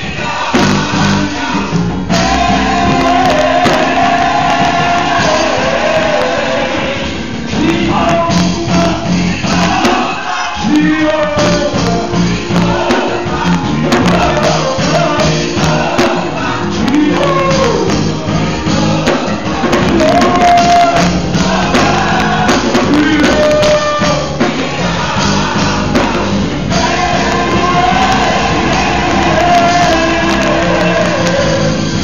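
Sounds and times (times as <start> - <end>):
gospel singing with band: 0.0 - 32.0.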